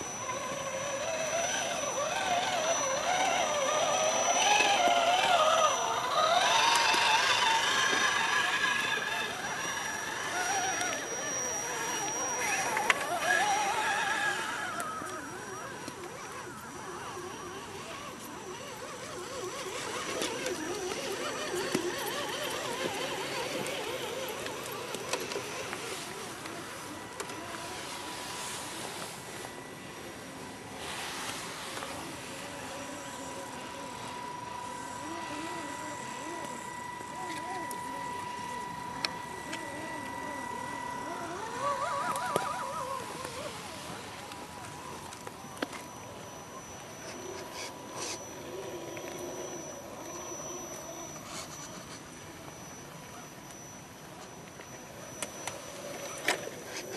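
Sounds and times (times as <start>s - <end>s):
electric motor whining: 0.0s - 56.9s
low wavering drone: 0.0s - 56.9s.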